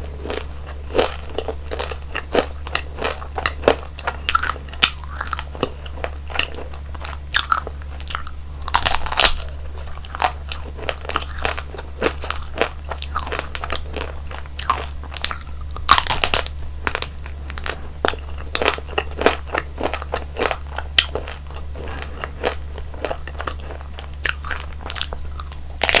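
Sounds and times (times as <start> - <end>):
crunchy bites and chewing: 0.0 - 26.0
steady low hum: 0.0 - 26.0.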